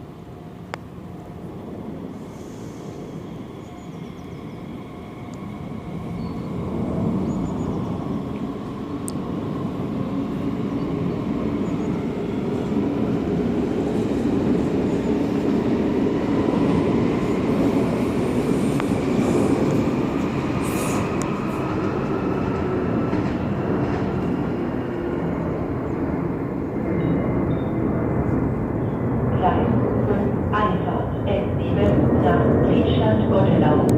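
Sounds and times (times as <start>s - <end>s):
train rolling rumble: 0.0s - 33.9s.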